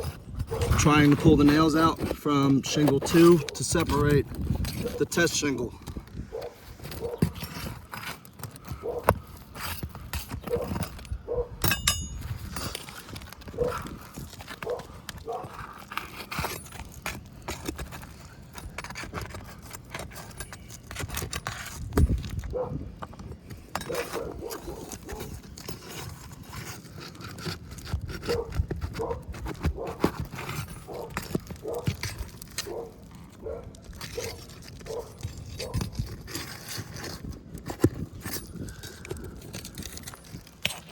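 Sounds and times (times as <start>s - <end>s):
metal tools scraping on shingles: 0.0s - 40.9s.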